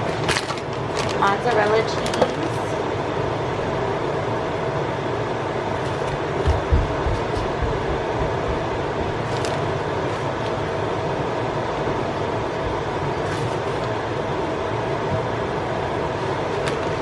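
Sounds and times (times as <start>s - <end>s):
kitchen fan whirring: 0.0s - 17.0s.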